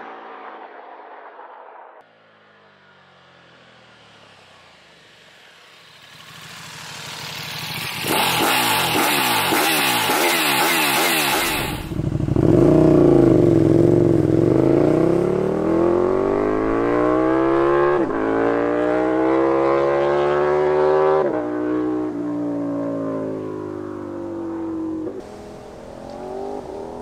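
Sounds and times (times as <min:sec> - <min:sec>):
motorcycle engine accelerating hard: 0:02.9 - 0:27.0.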